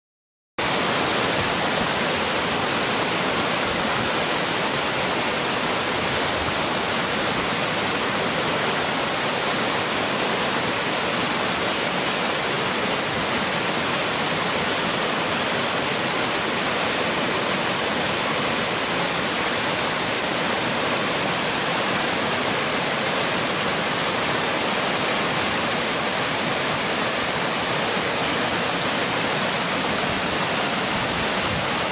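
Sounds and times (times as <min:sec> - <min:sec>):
waterfall splashing over rocks: 0:00.6 - 0:31.9.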